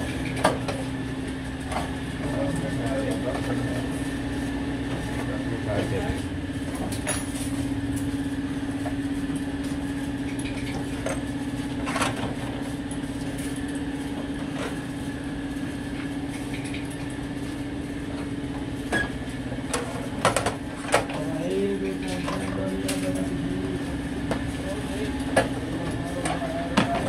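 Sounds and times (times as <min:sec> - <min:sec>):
machine hum with rapid flutter: 0:00.0 - 0:27.0.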